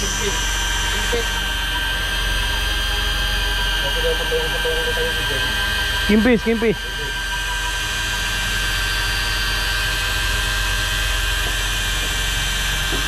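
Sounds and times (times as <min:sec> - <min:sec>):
fishing reel motor whining: 0:00.0 - 0:13.0
steady low hum: 0:00.0 - 0:13.0.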